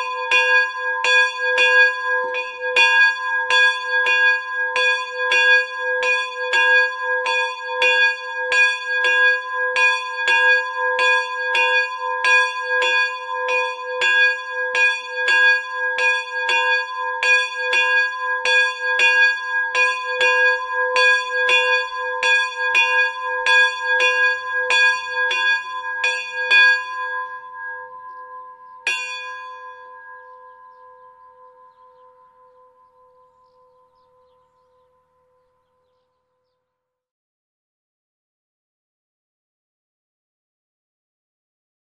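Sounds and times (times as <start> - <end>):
bronze bell ringing: 0.0 - 35.2.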